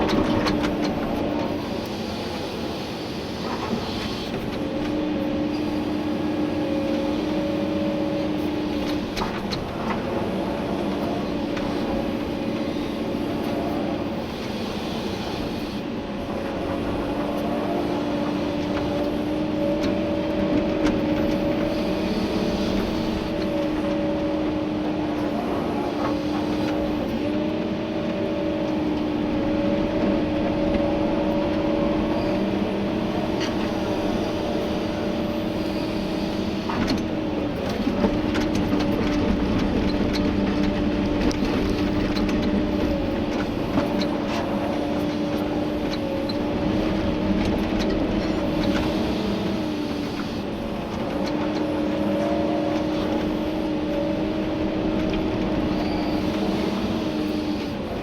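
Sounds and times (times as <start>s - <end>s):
excavator engine humming: 0.0s - 58.0s.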